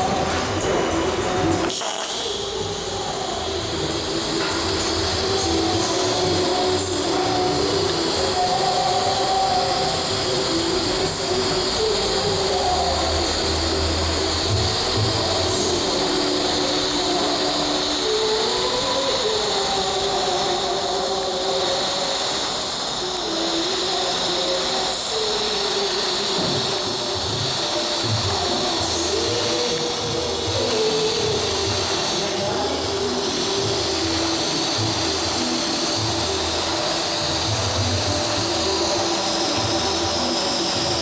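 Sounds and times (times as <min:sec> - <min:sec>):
droning hum: 0:00.0 - 0:41.0
welding arc hiss: 0:00.0 - 0:41.0.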